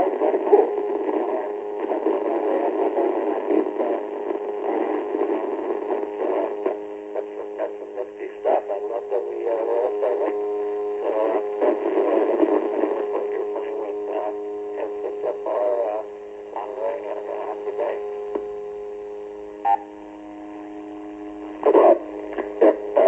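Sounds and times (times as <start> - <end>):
garbled radio voice: 0.0 - 10.4, 11.0 - 18.0, 21.6 - 23.0
buzzing radio interference: 0.0 - 23.0.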